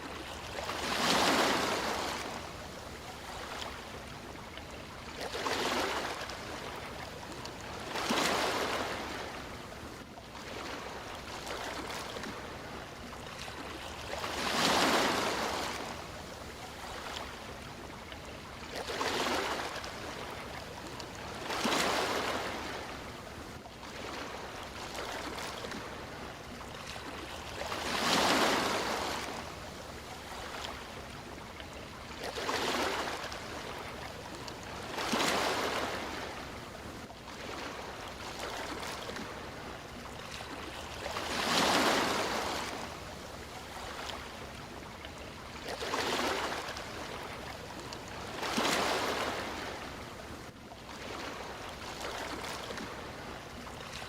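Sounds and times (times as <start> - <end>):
sea waves washing in: 0.0 - 17.9, 18.5 - 44.8, 45.4 - 54.0.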